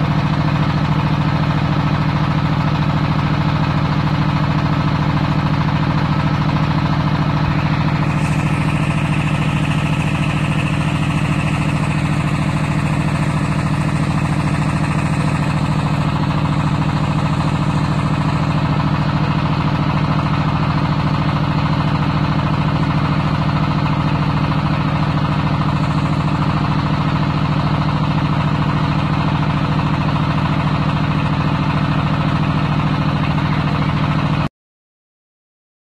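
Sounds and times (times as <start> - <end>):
tractor engine running under load: 0.0 - 34.5.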